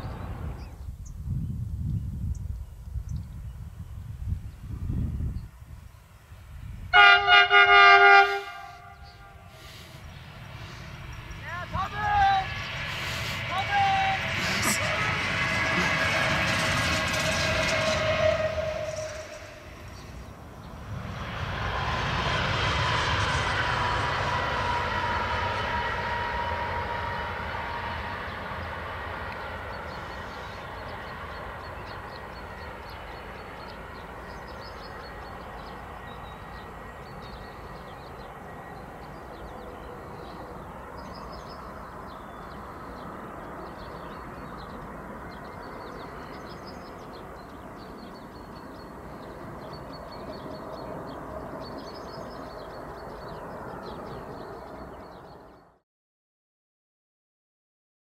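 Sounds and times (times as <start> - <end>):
distant locomotive rumble: 0.0 - 55.8
electric locomotive whine: 0.0 - 55.8.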